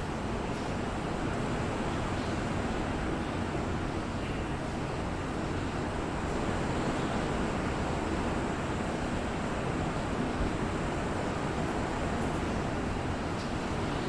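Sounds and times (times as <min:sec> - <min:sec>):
rain with wind: 0:00.0 - 0:14.0.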